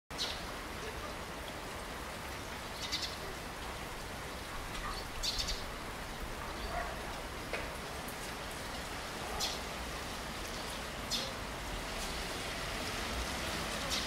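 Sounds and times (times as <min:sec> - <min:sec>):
rain hissing: 0:00.2 - 0:14.0.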